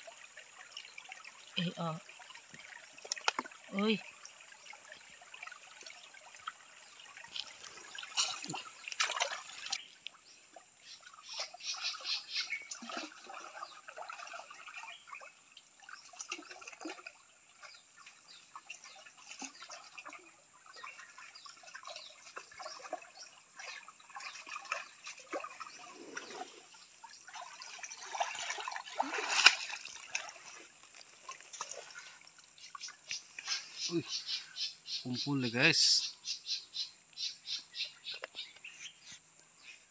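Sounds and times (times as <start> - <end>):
stream water splashing and trickling: 0.0 - 39.9.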